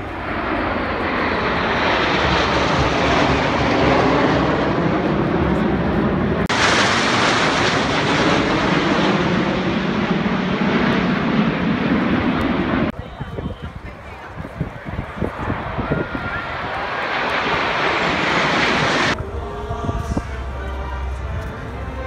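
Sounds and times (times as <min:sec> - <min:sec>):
jets flyover hissy roar: 0:00.0 - 0:22.0
jets roaring overhead: 0:00.0 - 0:22.0.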